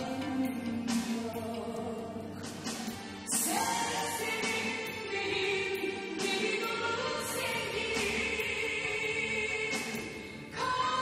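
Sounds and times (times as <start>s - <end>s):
choir-like singing music: 0.0s - 11.0s.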